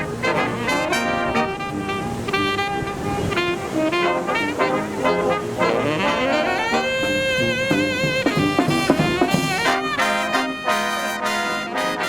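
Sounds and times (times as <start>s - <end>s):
brass band playing jazzy tune: 0.0s - 12.0s.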